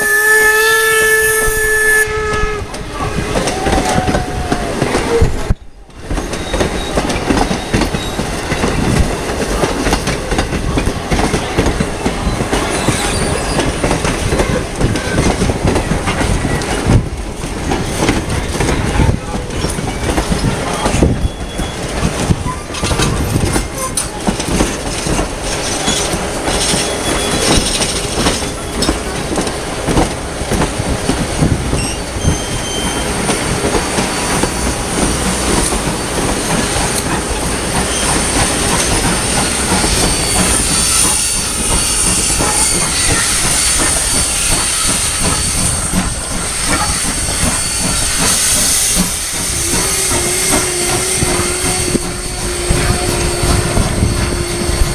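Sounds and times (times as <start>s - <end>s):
train wheels clicking over rail joints: 0.0s - 54.9s.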